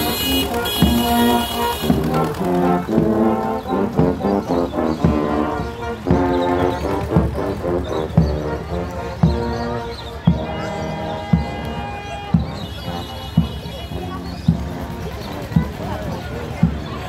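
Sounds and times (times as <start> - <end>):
brass band playing a march: 0.0 - 17.0.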